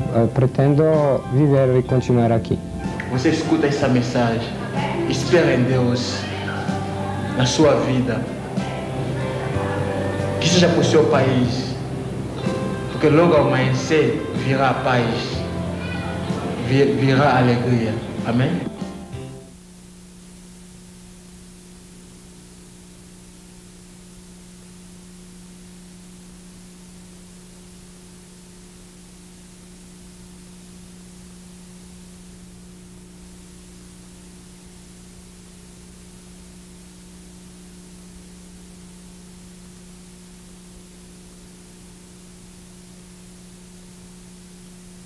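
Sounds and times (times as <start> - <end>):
low electrical hum: 0.0 - 45.0
steady tape hiss: 0.0 - 45.0.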